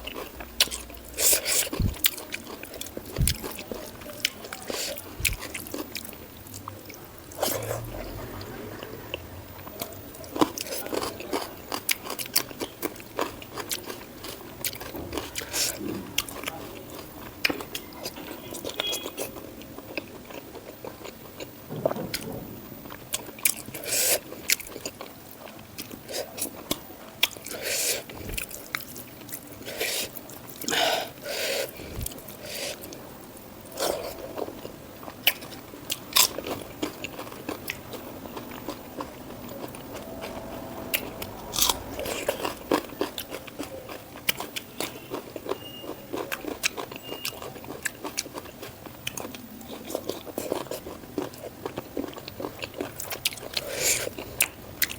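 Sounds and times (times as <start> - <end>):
chewing with wet mouth sounds: 0.0 - 54.9.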